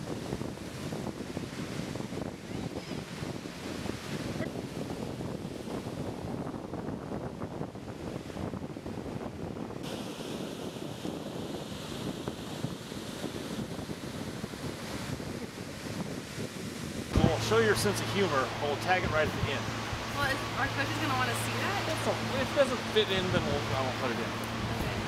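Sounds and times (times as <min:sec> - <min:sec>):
ocean surf breaking: 0:00.0 - 0:06.5, 0:07.2 - 0:25.0
wind rumbling on microphone: 0:00.0 - 0:25.0.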